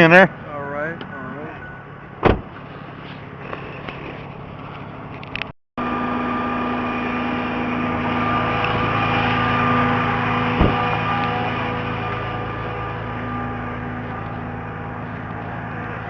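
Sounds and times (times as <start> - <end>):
engine idling: 1.9 - 16.0.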